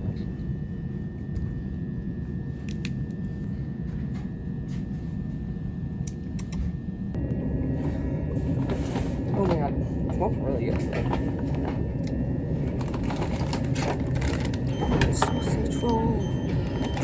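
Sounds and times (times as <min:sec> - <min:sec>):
train carriage rumble: 0:02.5 - 0:17.0.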